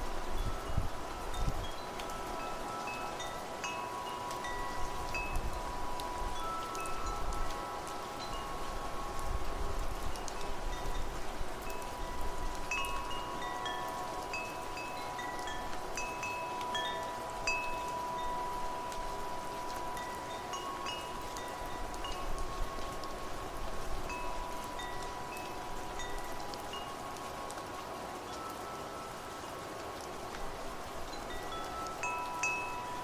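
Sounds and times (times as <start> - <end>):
rain and wind hiss: 0.0 - 33.0
wind chimes ringing: 0.0 - 33.0.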